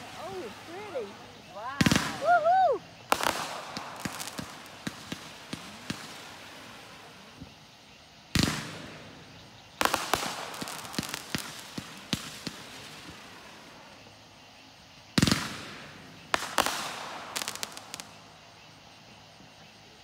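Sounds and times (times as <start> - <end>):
firework bangs: 0.0 - 7.6, 8.2 - 14.2, 15.1 - 18.6
sharp firework cracks: 0.0 - 7.6, 8.2 - 14.2, 15.1 - 18.7
firework crackling pops: 0.0 - 18.8.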